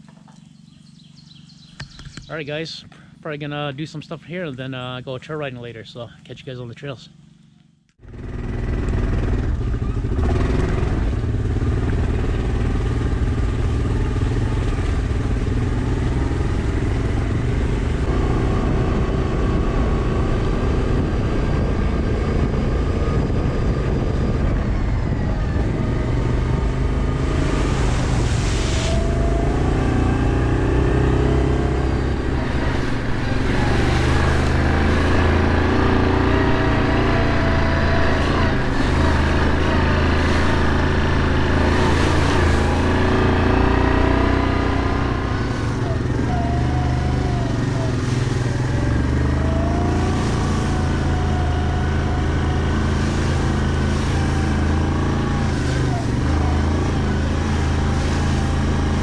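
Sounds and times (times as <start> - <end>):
atv engine running: 0.0 - 59.0
rush of noise: 8.4 - 59.0.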